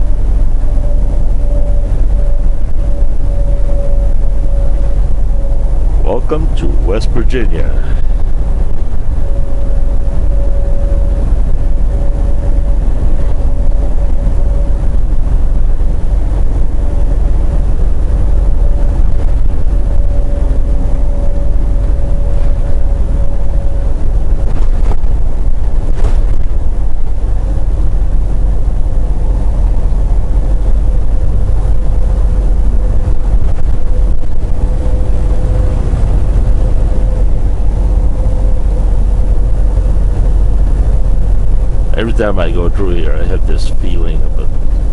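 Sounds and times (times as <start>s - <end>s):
road noise: 0.0s - 44.9s
truck engine drone: 0.0s - 44.9s.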